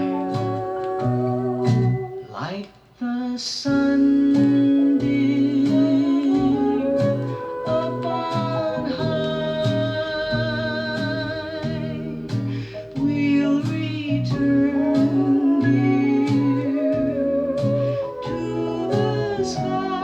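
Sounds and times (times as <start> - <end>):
retro ballad over loudspeakers: 0.0 - 2.2, 3.8 - 20.0.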